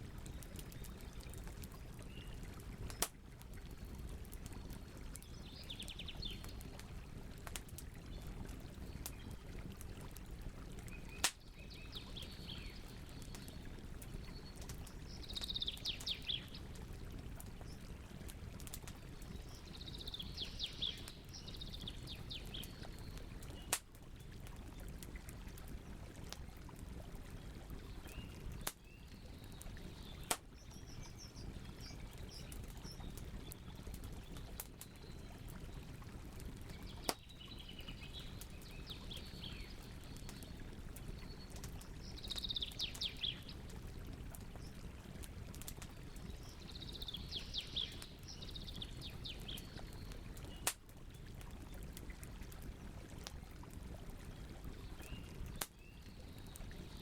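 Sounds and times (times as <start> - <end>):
campfire burning with pops: 0.0 - 57.0.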